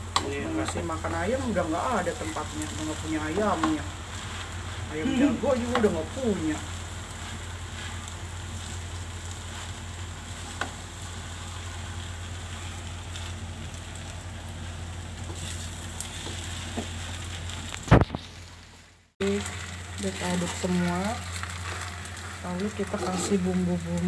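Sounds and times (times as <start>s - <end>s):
rice sizzling in a pan: 0.0s - 24.0s.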